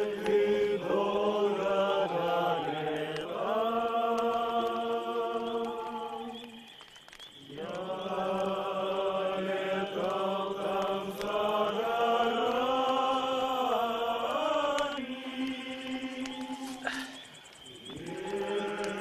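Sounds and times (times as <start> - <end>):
men singing in chorus: 0.0 - 6.7, 7.4 - 19.0.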